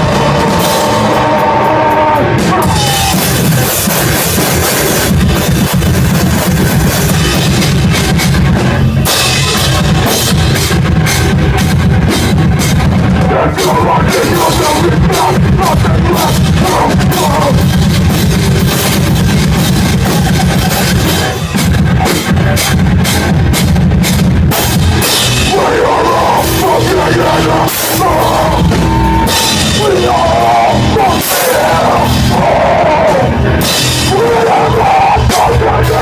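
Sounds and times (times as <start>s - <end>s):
hardcore band playing live: 0.0s - 36.0s.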